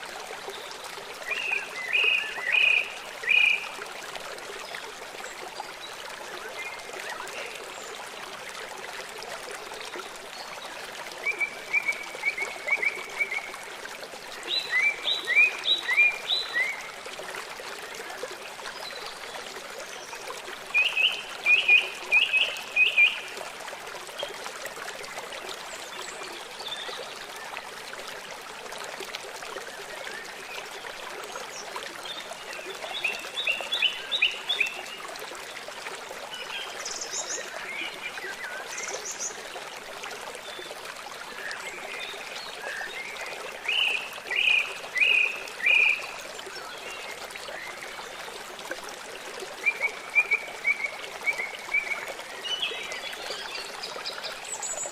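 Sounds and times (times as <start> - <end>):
stream water trickling: 0.0 - 54.9.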